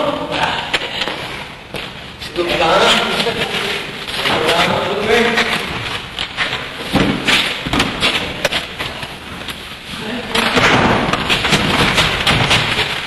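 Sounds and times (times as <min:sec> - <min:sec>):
constant noisy hiss: 0:00.0 - 0:13.0.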